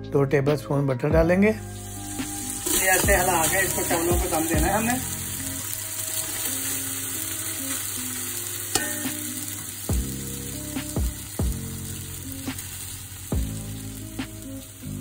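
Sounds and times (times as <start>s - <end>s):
butter sizzling: 1.6s - 15.0s.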